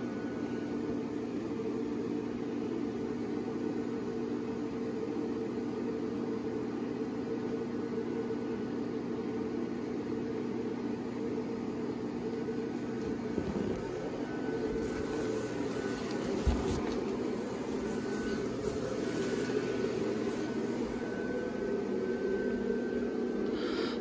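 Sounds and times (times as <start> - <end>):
blower fan humming: 0.0 - 24.0.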